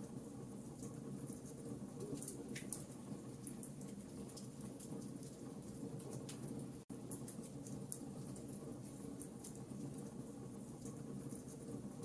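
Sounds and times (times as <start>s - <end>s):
fireplace fire crackling: 0.0s - 12.0s.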